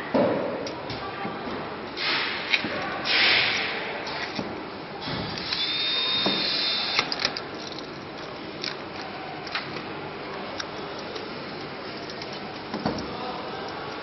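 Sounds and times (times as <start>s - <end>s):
workshop background noise: 0.0s - 14.0s.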